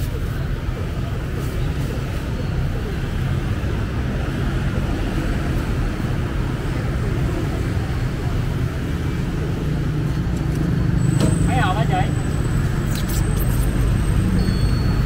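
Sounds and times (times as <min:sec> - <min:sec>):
motorbikes passing on busy road: 0:00.0 - 0:15.0.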